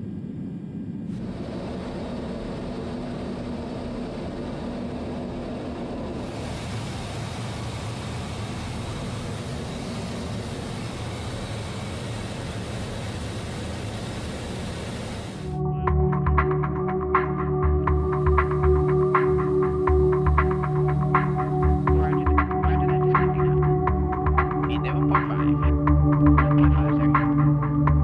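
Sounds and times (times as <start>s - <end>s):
jet engines roaring in flight: 0.0s - 15.6s, 16.2s - 28.0s.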